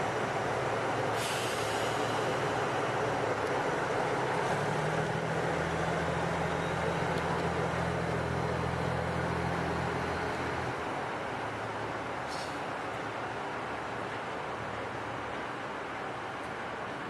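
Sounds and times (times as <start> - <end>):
diesel railcar engines droning: 0.0 - 17.0.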